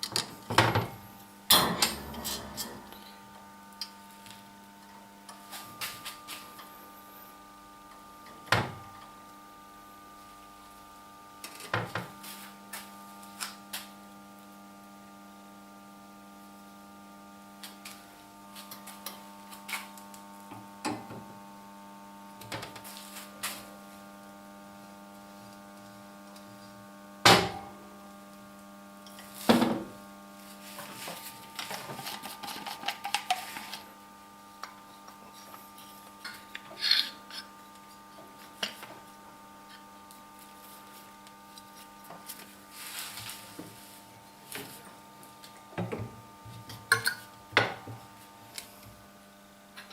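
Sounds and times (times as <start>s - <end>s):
steady electrical hum: 0.0s - 49.9s.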